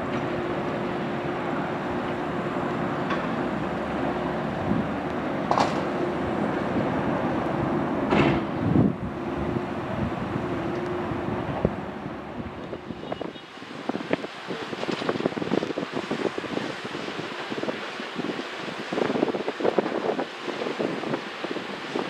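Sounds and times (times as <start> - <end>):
jet engine noise: 0.0 - 22.0
wind buffeting microphone: 0.0 - 22.0.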